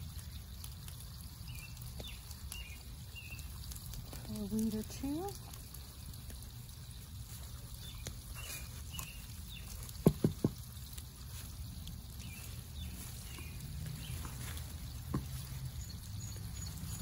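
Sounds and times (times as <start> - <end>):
hands rustling in soil and foliage: 0.0 - 17.0.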